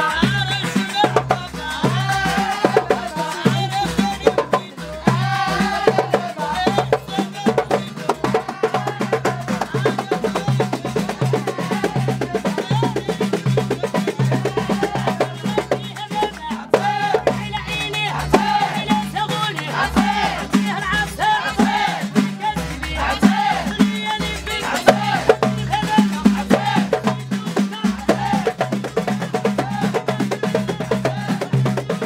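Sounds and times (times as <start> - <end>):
women singing together: 0.0 - 31.9
frame drums beaten by hand: 0.0 - 32.0.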